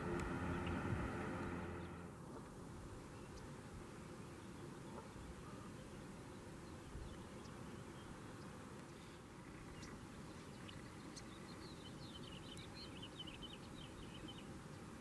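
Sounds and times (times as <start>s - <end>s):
light breeze hiss: 0.0s - 15.0s.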